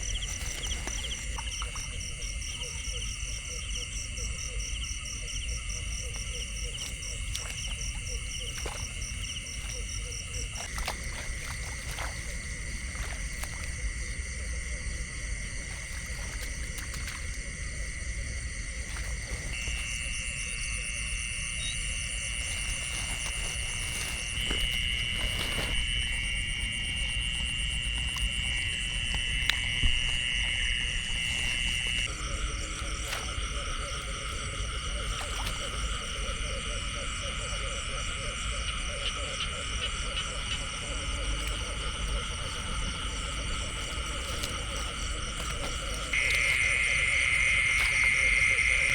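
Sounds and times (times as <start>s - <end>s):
frogs and insects trilling: 0.0s - 48.9s.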